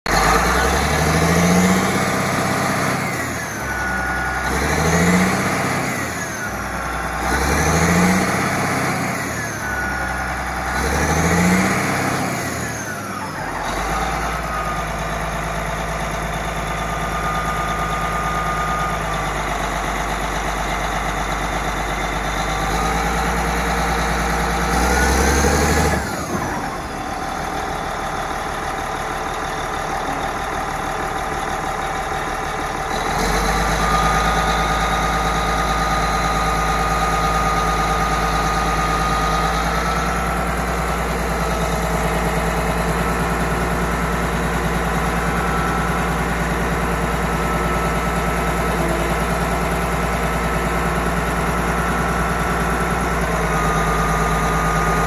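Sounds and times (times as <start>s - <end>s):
bulldozer diesel engine revving: 0.1s - 55.0s.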